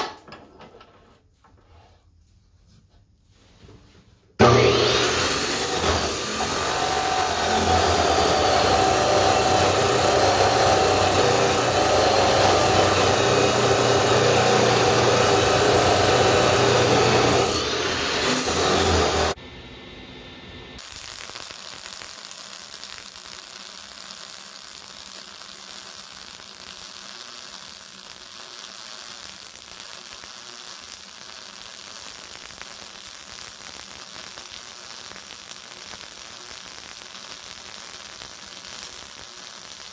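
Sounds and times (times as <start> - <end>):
power tool cutting steel: 4.4 - 19.4, 20.8 - 39.9.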